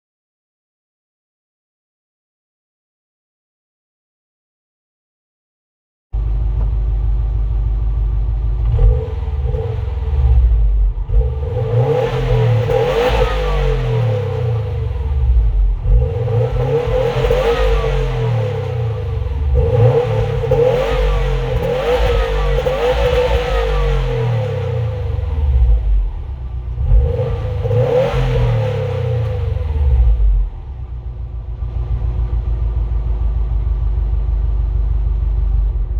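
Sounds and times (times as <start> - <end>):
car engine idling and revving: 6.2 - 35.9.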